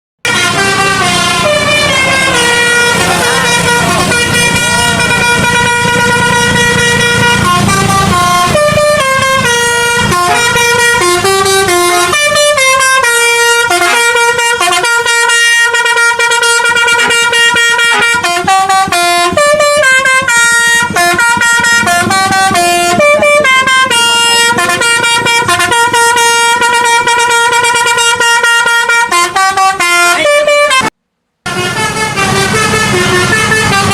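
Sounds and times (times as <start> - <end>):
air horns playing a tune: 0.2 - 33.9.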